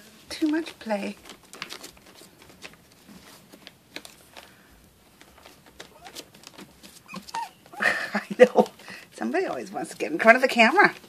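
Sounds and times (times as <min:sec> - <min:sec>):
puppies rustling on newspaper: 0:00.0 - 0:11.0.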